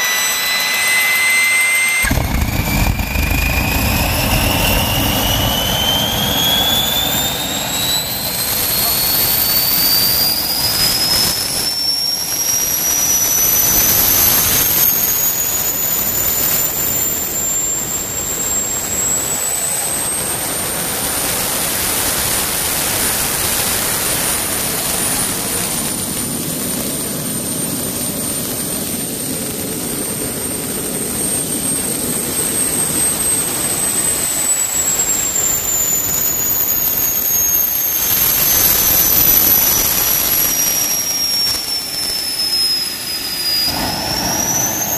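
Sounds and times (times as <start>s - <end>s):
gas turbine high whine and roar: 0.0s - 44.9s.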